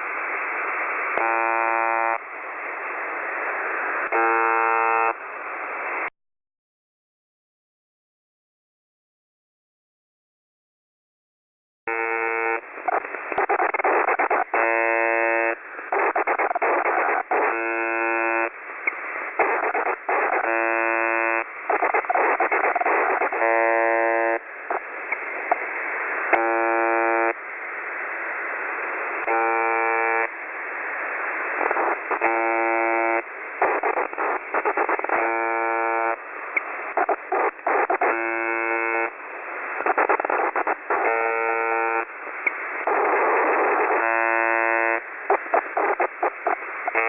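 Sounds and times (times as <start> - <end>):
harsh radio buzz tone: 0.0 - 6.1, 11.9 - 47.0
radio hiss: 0.0 - 6.1, 11.9 - 47.0.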